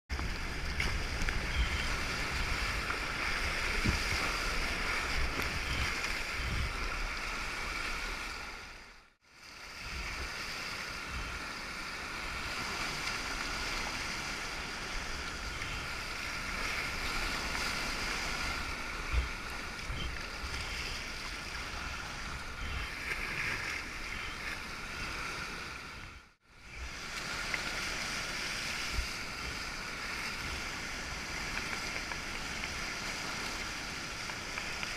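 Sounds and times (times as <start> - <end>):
whitewater rushing and churning: 0.2 - 34.9.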